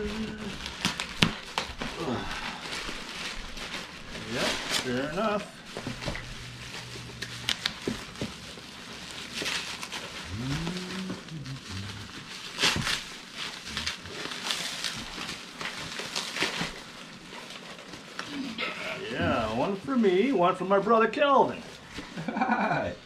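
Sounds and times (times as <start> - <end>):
bubble wrap crinkling: 0.0 - 22.8.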